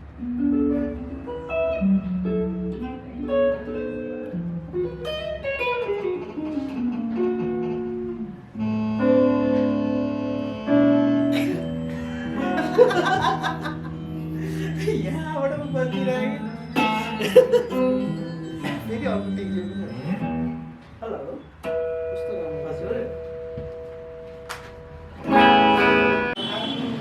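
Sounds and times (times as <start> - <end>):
guitar playing: 0.0 - 26.4.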